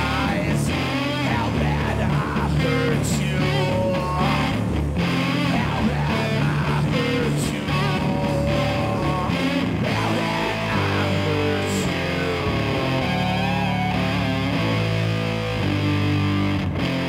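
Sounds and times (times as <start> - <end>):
electric guitar: 0.0 - 17.0
rock band playing live: 0.0 - 17.0.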